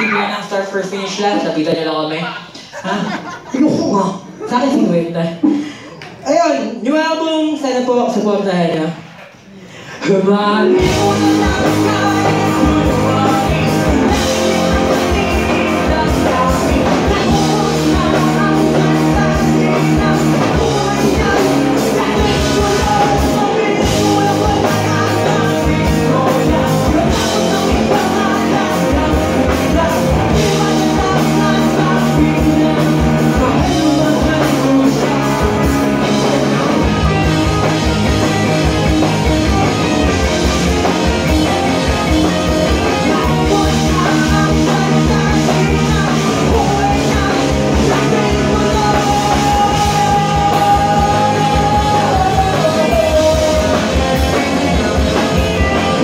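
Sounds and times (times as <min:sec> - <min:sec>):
drums: 0:00.0 - 0:56.0
man singing: 0:10.0 - 0:56.0
bass guitar: 0:10.6 - 0:56.0
electric guitars: 0:10.6 - 0:56.0.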